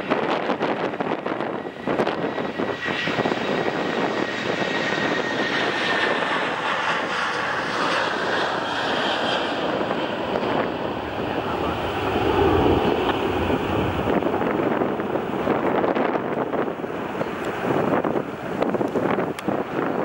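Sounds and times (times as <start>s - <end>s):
airliner jet noise: 0.0s - 20.0s
faint high engine whine: 2.2s - 20.0s.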